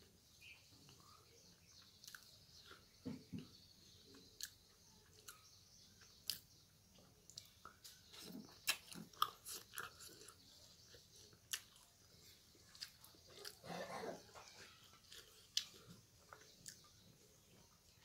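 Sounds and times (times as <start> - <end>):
person chewing and smacking: 0.9 - 18.0.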